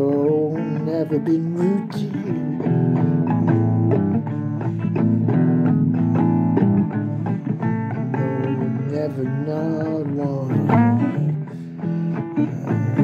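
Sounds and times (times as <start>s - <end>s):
blues guitar: 0.0s - 13.0s.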